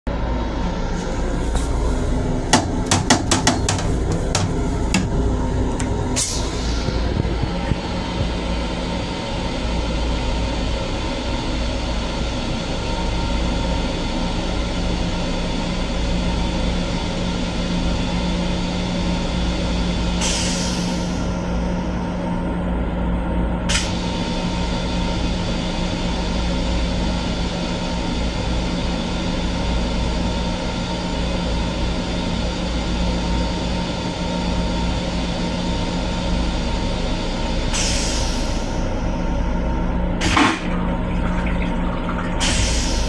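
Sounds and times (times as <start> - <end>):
train rumble and hum: 0.1 - 43.0.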